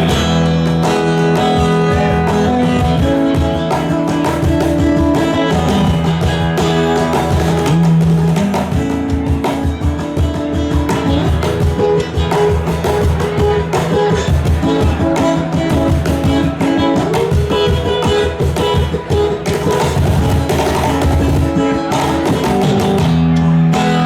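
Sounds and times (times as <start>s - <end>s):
live band playing: 0.0s - 24.0s
strummed guitars: 0.0s - 24.0s.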